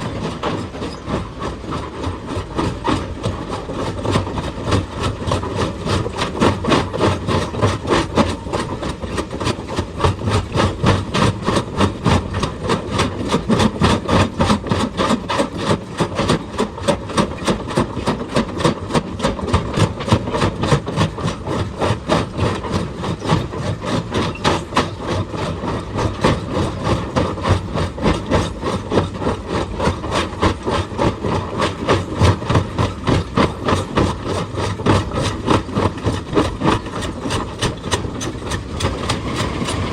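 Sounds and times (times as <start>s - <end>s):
excavator engine running: 0.0s - 39.9s
hydraulic breaker hammering stone: 0.0s - 39.9s.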